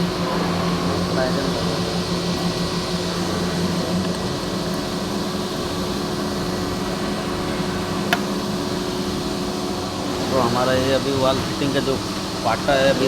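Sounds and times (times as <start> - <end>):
lathe machine hum: 0.0 - 13.0.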